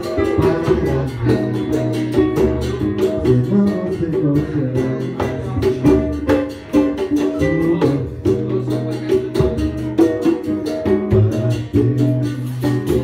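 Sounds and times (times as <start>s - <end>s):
guitars strummed and plucked: 0.0s - 13.0s
percussion steady beat: 0.0s - 13.0s.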